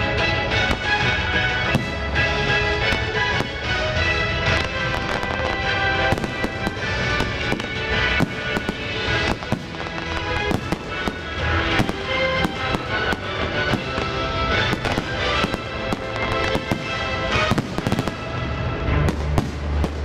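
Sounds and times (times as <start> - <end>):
firework shells bursting and crackling: 0.0 - 20.0
music: 0.0 - 20.0.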